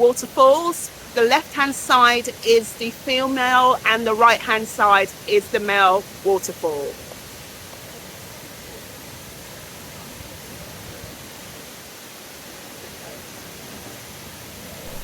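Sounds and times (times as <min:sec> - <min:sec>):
waterfalls rushing: 0:00.0 - 0:15.0.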